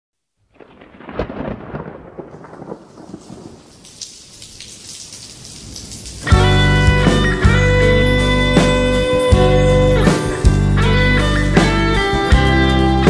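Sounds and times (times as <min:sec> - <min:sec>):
rain falling: 0:00.4 - 0:12.5
thunder rumbling: 0:00.5 - 0:11.0.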